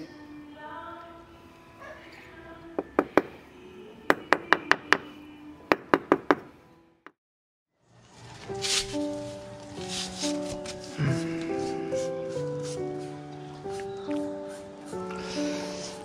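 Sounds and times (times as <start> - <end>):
background music: 0.0 - 7.1, 7.9 - 16.0.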